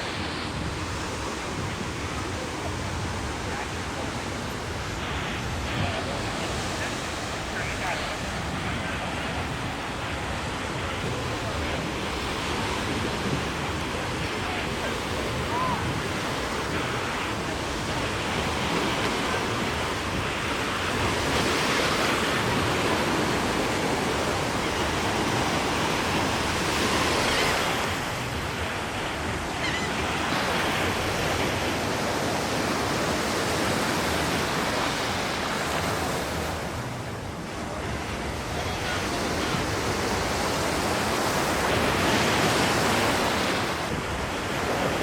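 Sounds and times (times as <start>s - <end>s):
waves washing onto beach: 0.0s - 45.0s.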